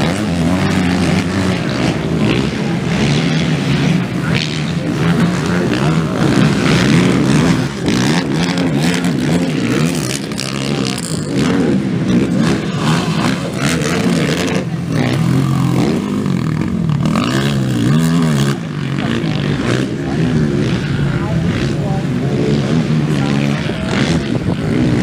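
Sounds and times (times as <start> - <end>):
quad engine revving: 0.0 - 25.0.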